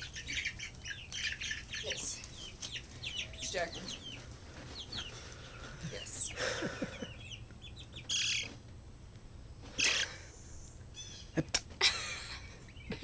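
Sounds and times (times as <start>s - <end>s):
chicks cheeping: 0.0s - 8.7s, 9.6s - 11.8s, 12.4s - 13.0s.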